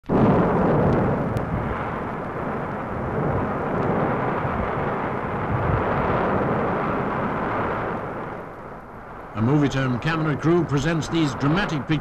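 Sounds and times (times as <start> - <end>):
volcanic eruption rumbling: 0.0 - 12.0.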